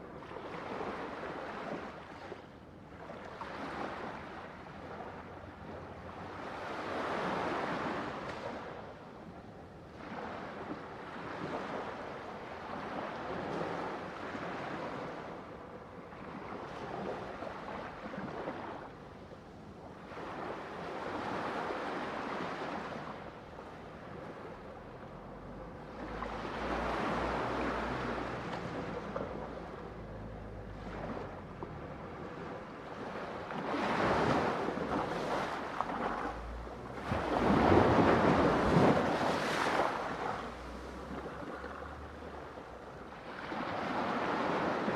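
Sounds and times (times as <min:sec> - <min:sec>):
ocean waves breaking on shore: 0:00.0 - 0:09.0, 0:09.9 - 0:44.9.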